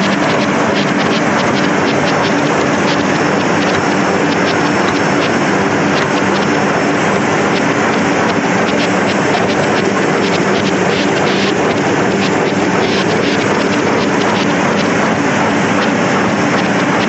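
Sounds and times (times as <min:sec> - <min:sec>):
low hum: 0:00.0 - 0:17.0
printing press running: 0:00.0 - 0:17.0.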